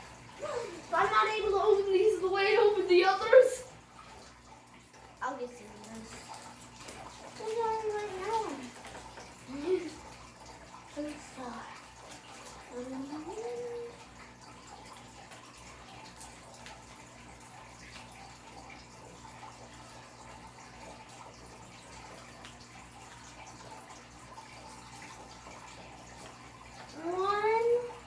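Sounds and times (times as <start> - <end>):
faint ticks and rustles: 3.2 - 28.0.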